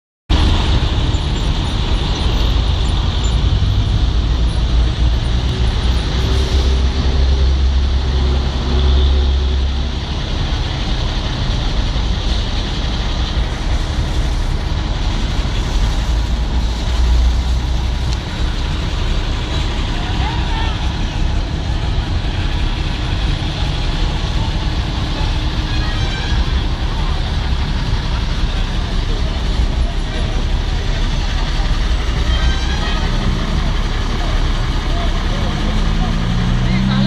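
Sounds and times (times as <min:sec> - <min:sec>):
bus engine rumble: 0:00.3 - 0:37.0
street traffic: 0:00.3 - 0:37.0.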